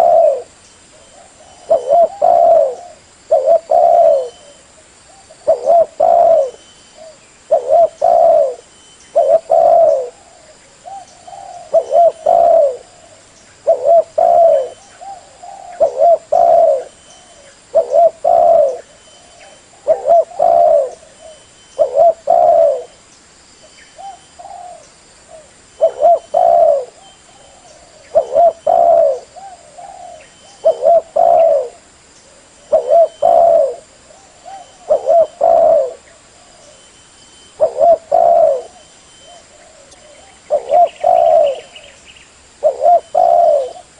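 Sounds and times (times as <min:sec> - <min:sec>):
dove cooing: 0:00.0 - 0:23.0, 0:24.0 - 0:42.0, 0:42.6 - 0:43.9.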